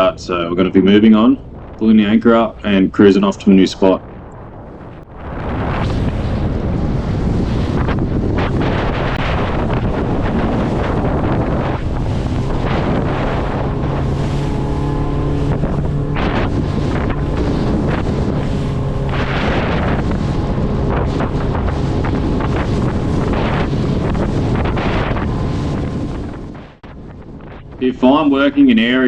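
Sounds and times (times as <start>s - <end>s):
wind buffeting microphone: 0.0s - 29.0s
outboard motor humming: 4.7s - 28.9s.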